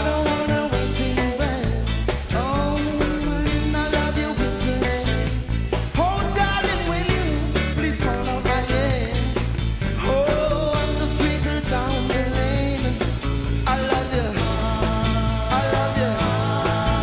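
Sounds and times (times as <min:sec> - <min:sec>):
reggae pop song: 0:00.0 - 0:17.0.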